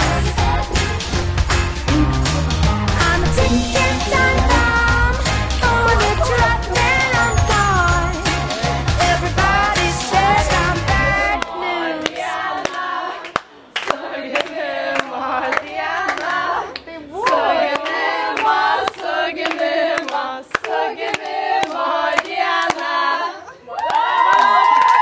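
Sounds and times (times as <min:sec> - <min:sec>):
young women singing: 0:03.0 - 0:23.6.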